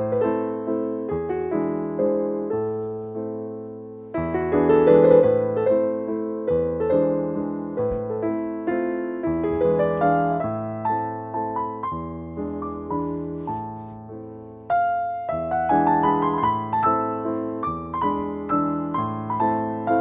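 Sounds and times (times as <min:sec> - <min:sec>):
soft piano music: 0:00.0 - 0:20.0.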